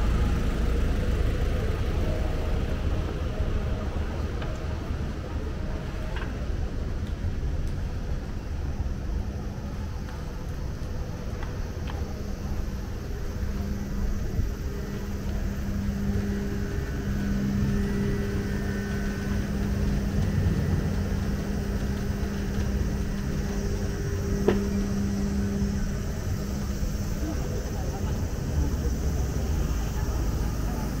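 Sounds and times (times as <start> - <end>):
droning hum: 0.0 - 31.0
traffic rumble: 0.0 - 31.0.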